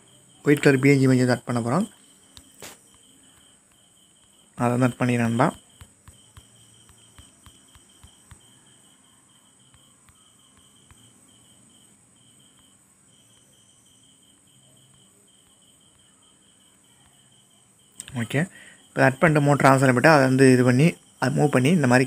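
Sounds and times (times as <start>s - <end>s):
faint crickets chirping: 0.0s - 22.0s.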